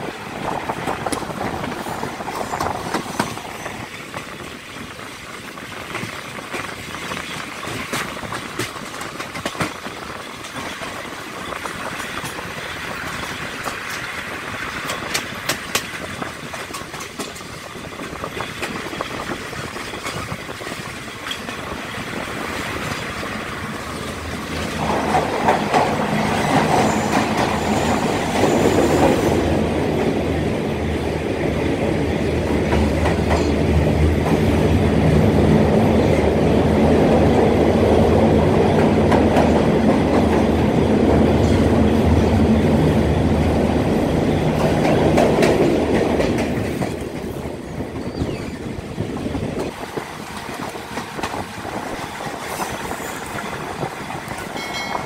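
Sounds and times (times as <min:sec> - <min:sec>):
train wheels rumbling in tunnel: 0:00.0 - 0:55.0.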